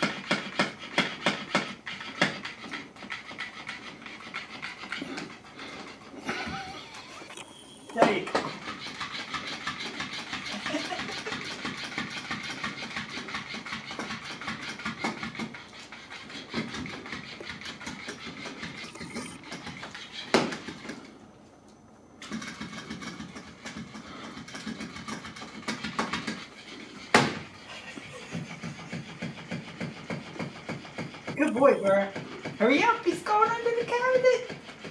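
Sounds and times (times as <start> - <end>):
toy motor whirring: 0.0 - 21.1, 22.2 - 34.9.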